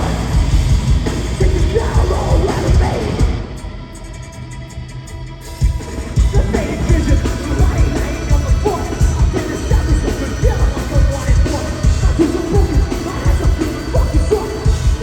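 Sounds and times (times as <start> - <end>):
heavy metal band playing live: 0.0 - 15.0
pounding drums and bass: 0.0 - 15.0.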